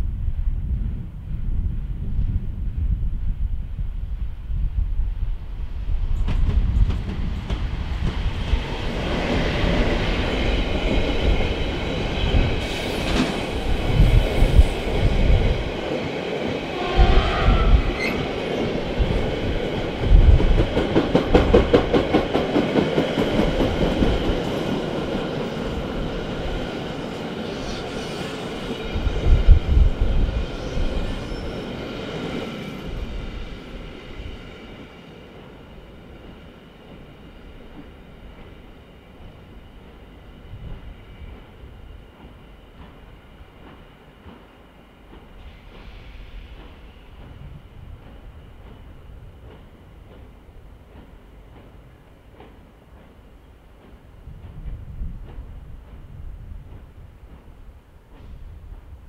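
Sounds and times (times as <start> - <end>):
electric locomotive passing: 5.1 - 59.0.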